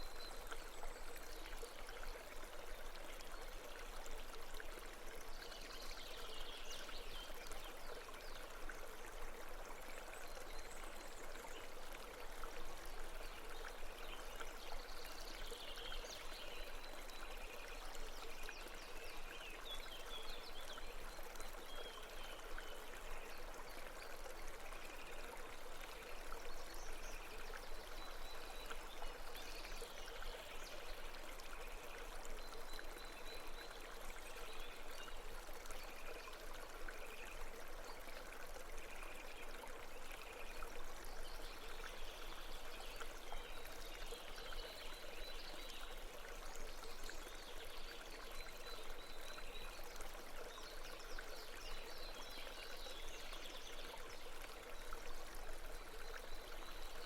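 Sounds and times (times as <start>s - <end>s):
babbling brook: 0.0s - 57.0s.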